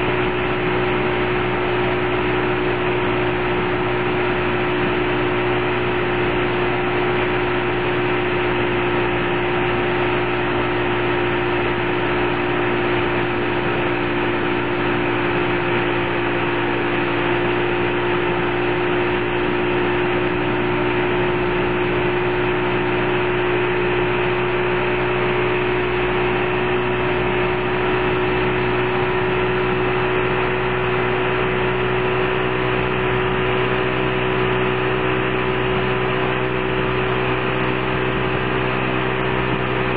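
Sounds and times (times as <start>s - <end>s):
motorboat engine hum: 0.0s - 39.9s
rush of water noise: 0.0s - 39.9s.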